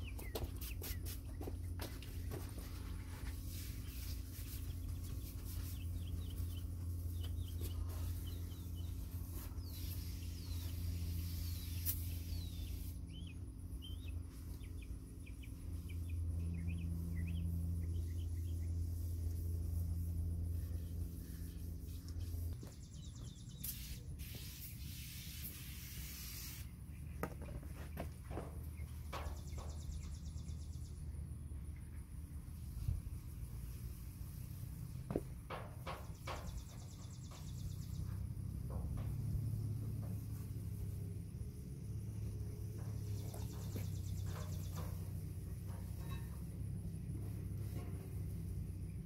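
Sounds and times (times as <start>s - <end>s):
birds chirping: 0.0s - 25.0s, 26.6s - 32.4s, 34.3s - 49.0s
steady low hum: 0.0s - 49.0s.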